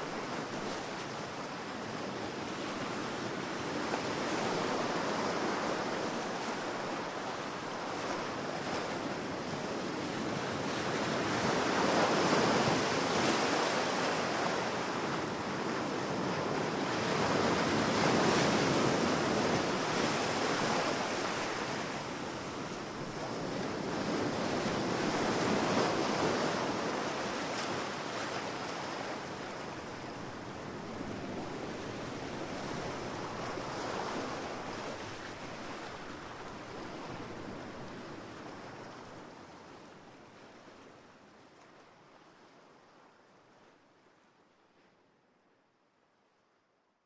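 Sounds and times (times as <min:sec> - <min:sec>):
ocean surf washing onto beach: 0:00.0 - 0:39.4.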